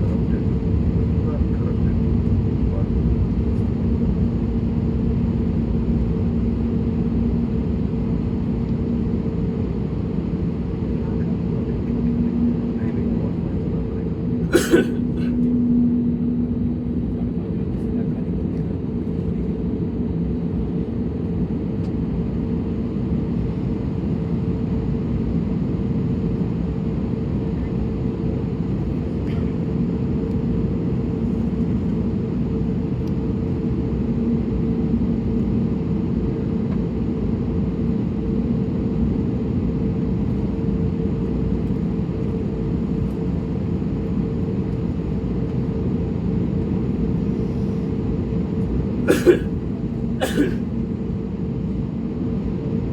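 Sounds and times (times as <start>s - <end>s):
jet engines idling in cabin: 0.0s - 52.9s.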